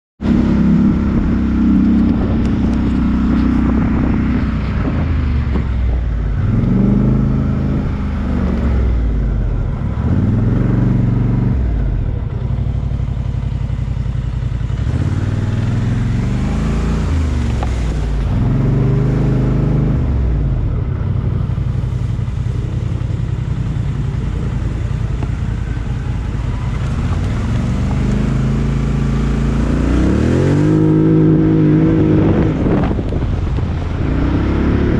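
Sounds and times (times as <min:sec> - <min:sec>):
off-road vehicle engine revving: 0:00.2 - 0:34.9.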